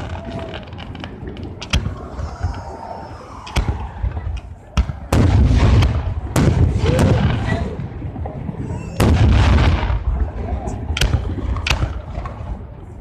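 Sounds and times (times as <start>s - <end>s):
fireworks cracking: 0.0s - 12.8s
fireworks booms with rolling rumble: 0.0s - 13.0s.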